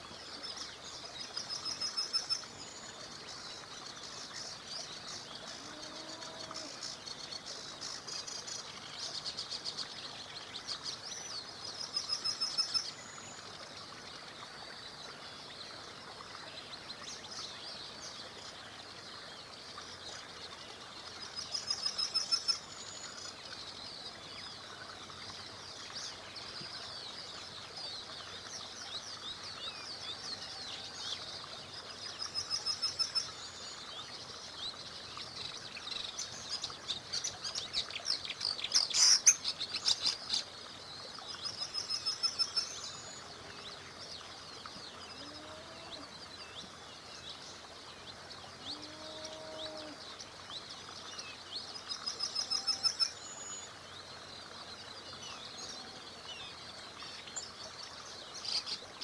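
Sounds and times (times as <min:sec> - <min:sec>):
faint stream hiss: 0:00.0 - 0:59.0
songbirds singing and chirping: 0:00.0 - 0:59.0.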